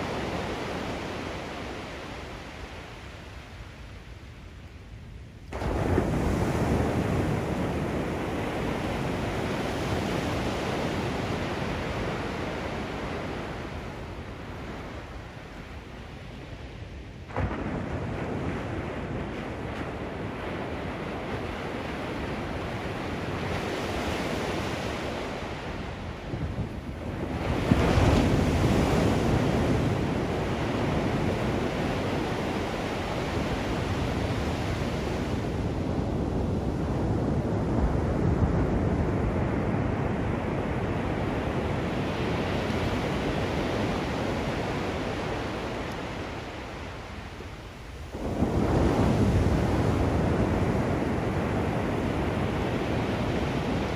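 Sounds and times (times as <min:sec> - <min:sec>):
waves washing on beach: 0:00.0 - 0:53.9
wind rumble on microphone: 0:00.0 - 0:53.9.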